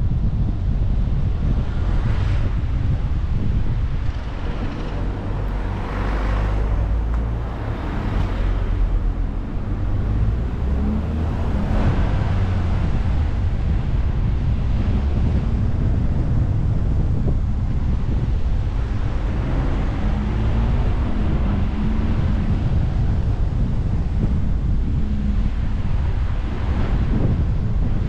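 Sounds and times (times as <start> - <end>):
passing traffic rushes: 0.0 - 28.0
road noise: 0.0 - 28.0
wind rumble on microphone: 0.0 - 28.0.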